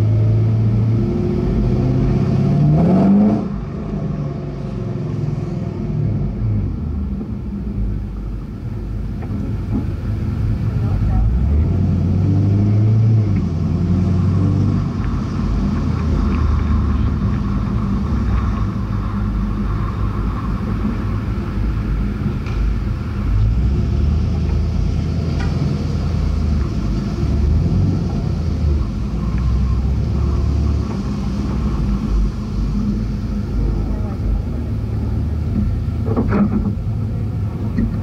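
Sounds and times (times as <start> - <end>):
car engine at low revs: 0.0 - 38.0.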